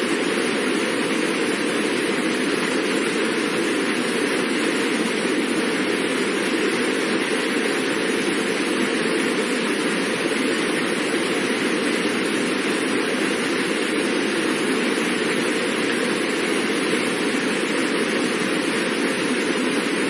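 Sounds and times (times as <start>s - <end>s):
fast water rushing: 0.0s - 20.0s.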